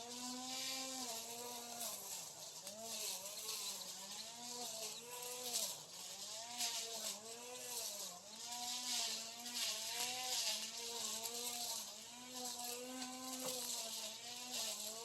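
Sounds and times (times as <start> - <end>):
brush cutter cutting grass: 0.0 - 15.0
hiss of cut grass: 0.0 - 15.0.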